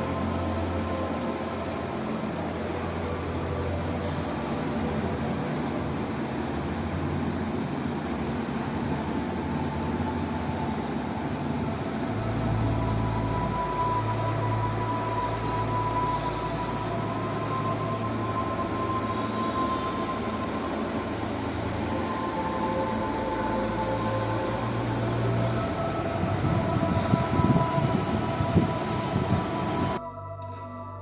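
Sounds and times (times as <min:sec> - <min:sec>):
ceiling fan motor hum: 0:00.0 - 0:30.1
faint fan whine: 0:00.0 - 0:30.3.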